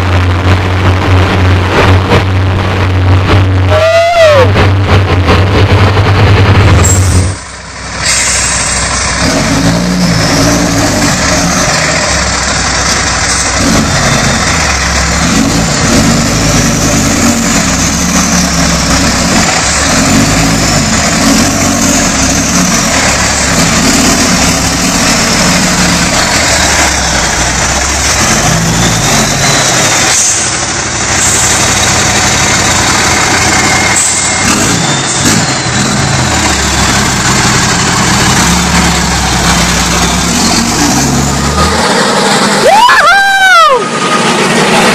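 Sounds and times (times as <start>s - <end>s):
truck engine under load: 0.0s - 44.9s.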